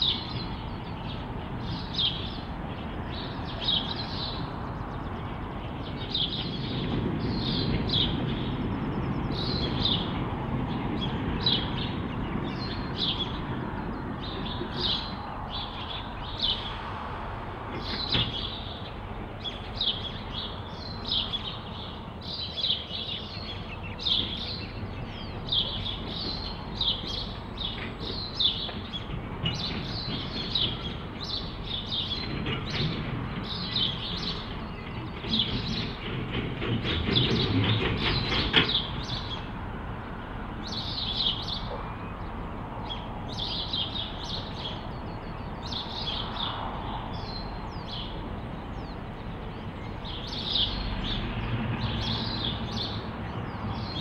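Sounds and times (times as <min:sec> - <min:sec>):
distant diesel locomotive rumble: 0:00.0 - 0:54.0
songbird chirping: 0:00.0 - 0:54.0.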